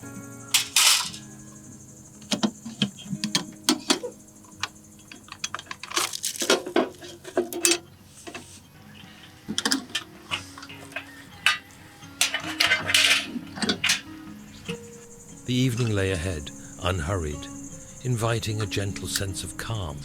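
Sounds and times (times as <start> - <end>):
dishes and pots clinking: 0.0 - 18.0
rustling and scraping: 0.0 - 19.4.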